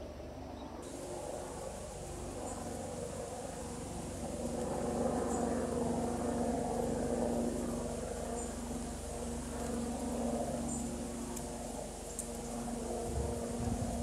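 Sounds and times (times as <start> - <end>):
motor droning hum: 0.0 - 14.0.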